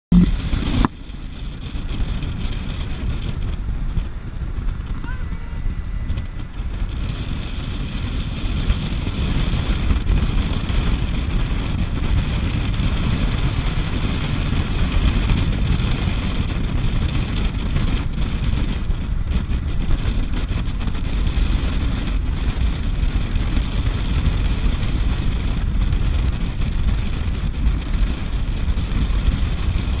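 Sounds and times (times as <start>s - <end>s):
boat engine running: 0.1s - 30.0s
wind rushing over microphone: 0.1s - 30.0s.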